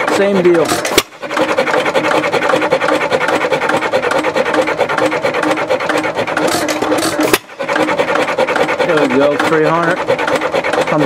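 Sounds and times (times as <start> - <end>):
tachometer scraping whir: 0.0 - 11.0.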